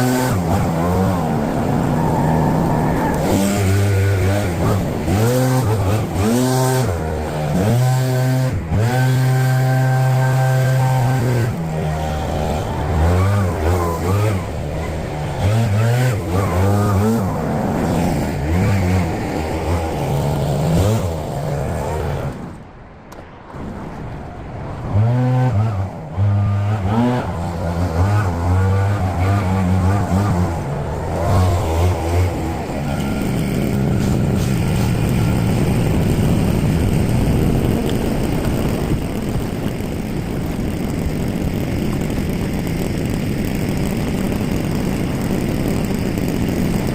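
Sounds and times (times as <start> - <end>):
small two-stroke engine revving: 0.0 - 22.6, 24.8 - 46.9.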